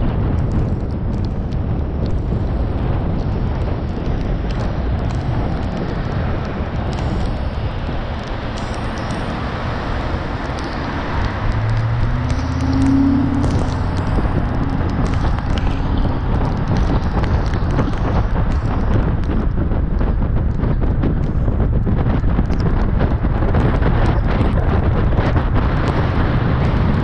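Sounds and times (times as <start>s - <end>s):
steady low hum: 0.0s - 27.0s
tyre noise on wet road: 0.0s - 27.0s
wind buffeting microphone: 0.0s - 27.0s.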